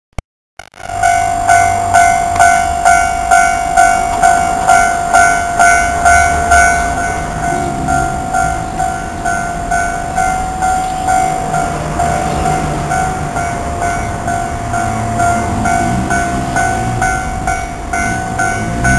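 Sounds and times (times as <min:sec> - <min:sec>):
level-crossing bell ringing: 0:00.8 - 0:18.9.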